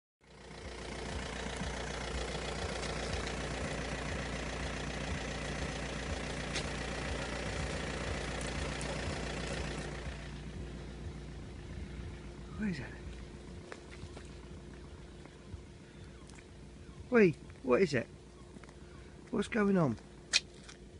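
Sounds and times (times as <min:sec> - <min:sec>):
vehicle engine running: 0:00.2 - 0:20.9.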